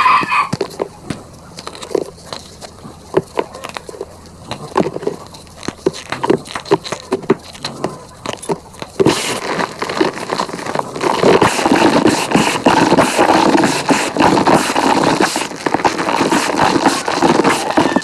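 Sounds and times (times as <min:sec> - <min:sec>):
powder crunching and squeaking by hand: 0:00.0 - 0:18.0.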